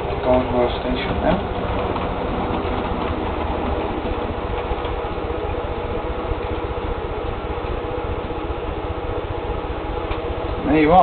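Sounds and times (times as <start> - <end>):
model train motor hum: 0.0 - 11.0
wheels ticking on rails: 0.0 - 11.0.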